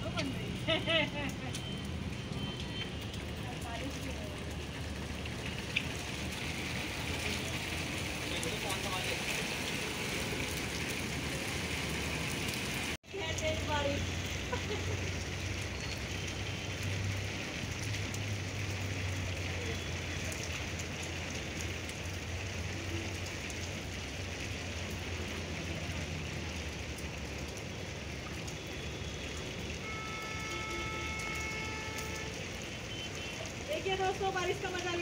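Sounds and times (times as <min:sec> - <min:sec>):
rain on a tiled roof: 0:00.0 - 0:35.0.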